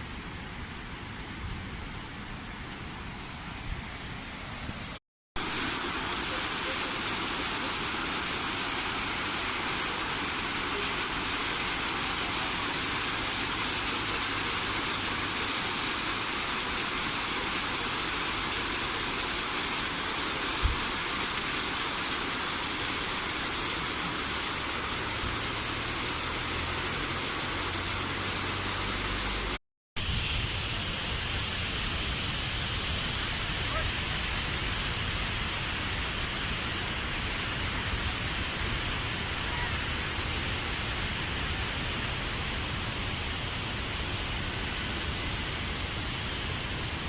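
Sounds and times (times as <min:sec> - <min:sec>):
waterfall rushing: 0:04.6 - 0:47.0.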